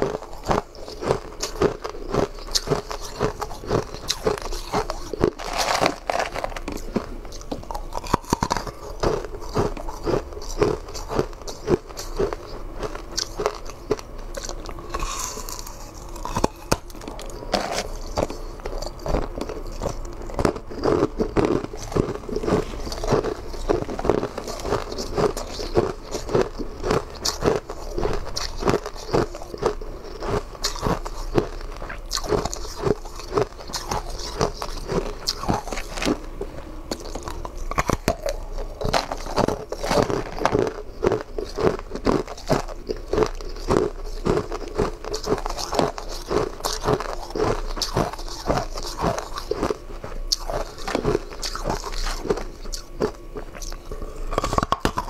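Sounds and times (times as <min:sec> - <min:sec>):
crunching ice: 0:00.0 - 0:36.3, 0:36.9 - 0:55.0.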